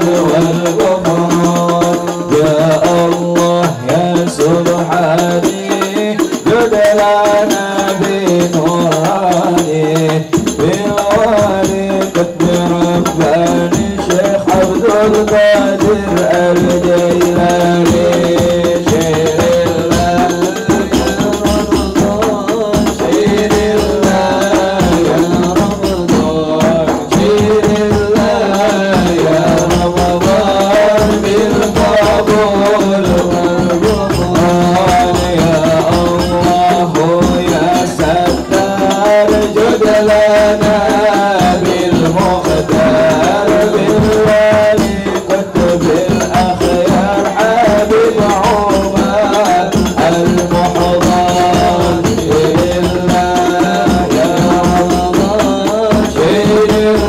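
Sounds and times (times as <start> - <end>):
frame drums beating: 0.0 - 57.0
jingling percussion: 0.0 - 57.0
voices singing devotional song: 0.0 - 57.0.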